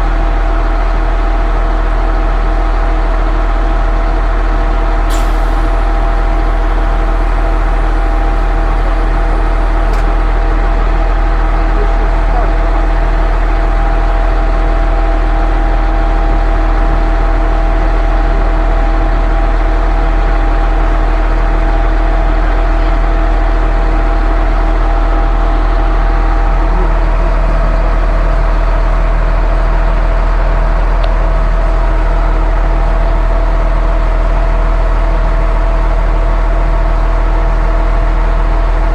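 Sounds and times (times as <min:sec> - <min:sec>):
pump engine droning: 0:00.0 - 0:38.9.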